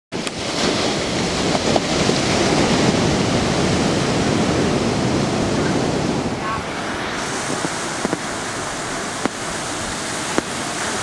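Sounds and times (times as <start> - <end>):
ocean waves breaking: 0.1 - 11.0.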